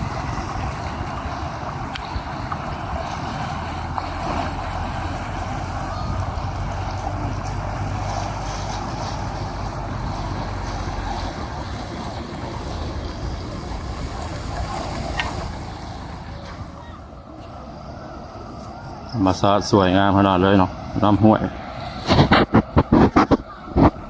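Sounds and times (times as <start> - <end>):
stream rushing over rapids: 0.0 - 24.0
wind rumble on microphone: 0.0 - 24.0.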